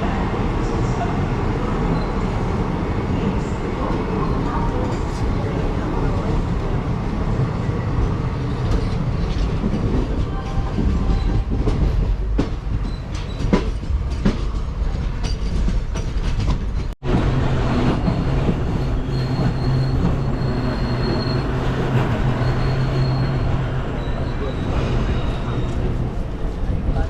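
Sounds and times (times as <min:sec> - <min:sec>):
train rumble from inside coach: 0:00.0 - 0:27.0.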